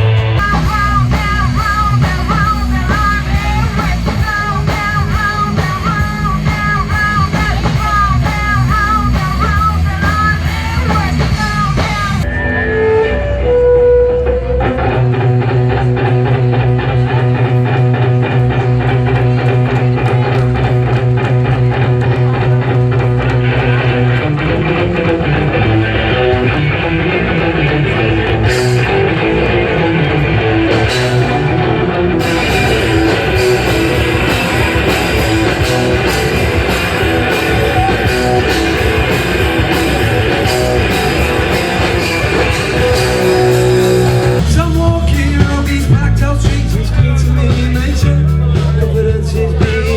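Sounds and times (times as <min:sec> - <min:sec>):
instrumental guitar rock music: 0:00.0 - 0:49.9.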